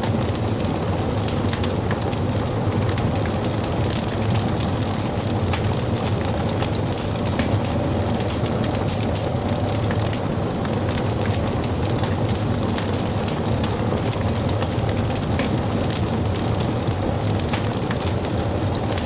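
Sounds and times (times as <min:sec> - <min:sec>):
low rumble of flame: 0:00.0 - 0:19.0
wood crackling and popping: 0:00.0 - 0:19.0.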